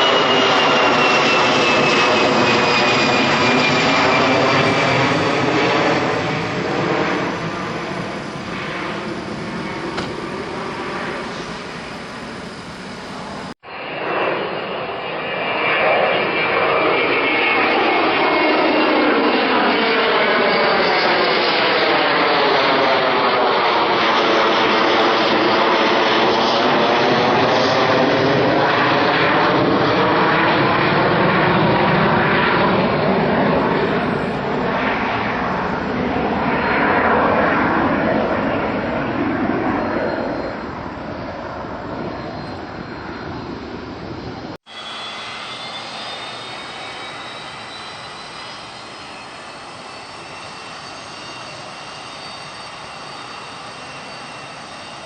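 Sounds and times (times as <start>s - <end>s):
jet airliner passing: 0.0s - 55.0s
jet high whine: 0.0s - 55.0s.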